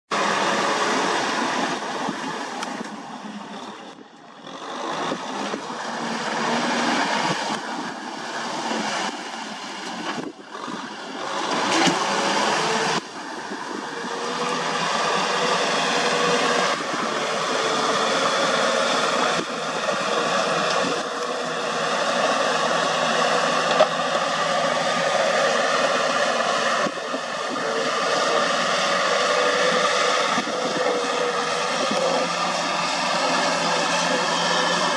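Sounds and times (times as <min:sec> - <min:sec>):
rotary tiller churning mud: 0:00.1 - 0:34.9
tractor diesel engine under load: 0:00.1 - 0:34.9.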